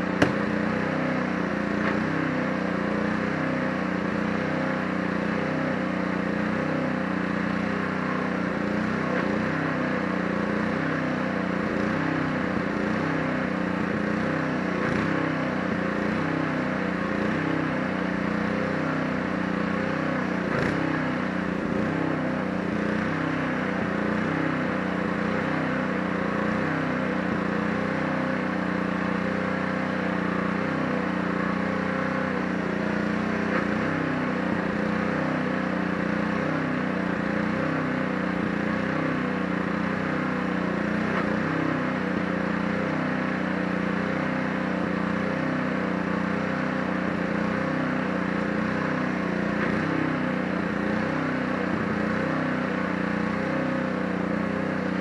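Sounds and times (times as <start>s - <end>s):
pressure washer engine running: 0.0s - 55.0s.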